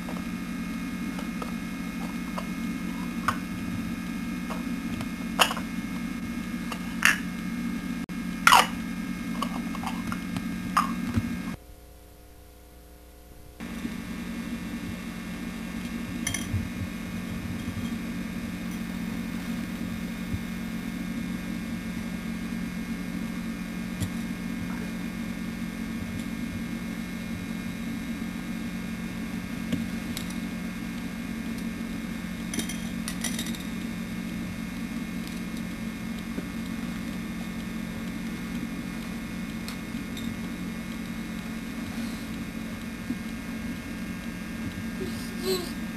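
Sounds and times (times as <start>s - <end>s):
low hum with hiss: 0.0s - 45.9s.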